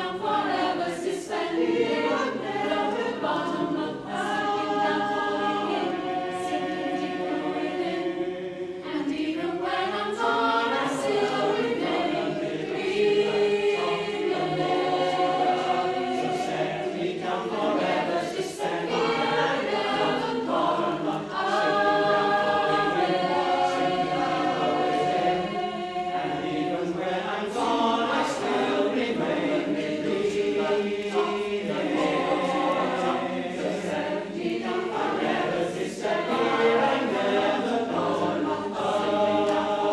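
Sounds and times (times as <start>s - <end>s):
mixed choir singing in harmony: 0.0s - 39.9s.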